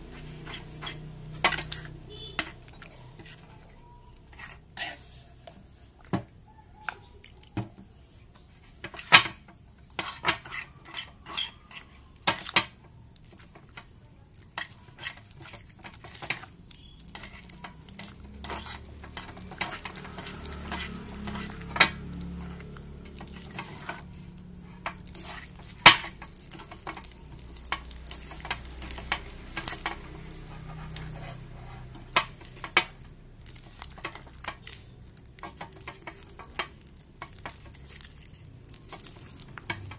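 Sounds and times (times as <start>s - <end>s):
wet sticky slime stirring: 0.0s - 39.9s.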